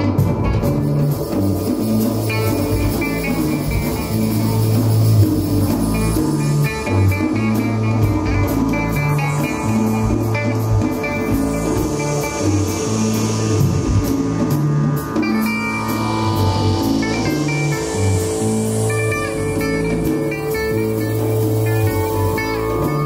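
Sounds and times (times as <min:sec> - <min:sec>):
bass notes: 0:00.0 - 0:23.0
cymbal wash: 0:00.0 - 0:23.0
drums: 0:00.0 - 0:23.0.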